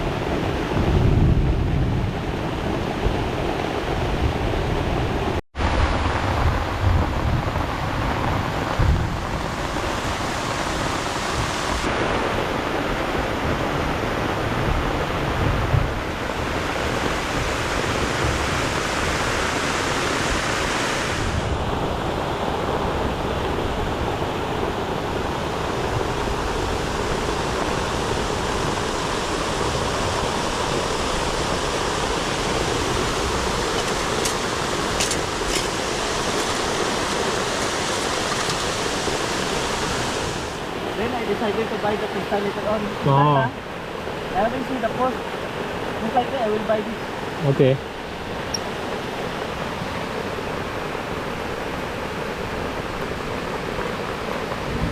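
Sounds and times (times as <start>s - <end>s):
wind buffeting microphone: 0.0s - 41.0s, 48.1s - 54.9s
waterfall rushing: 5.1s - 54.9s.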